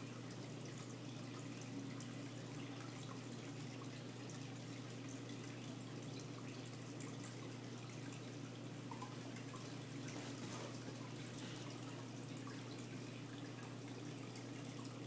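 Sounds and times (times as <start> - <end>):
water trickling and bubbling: 0.0 - 15.0.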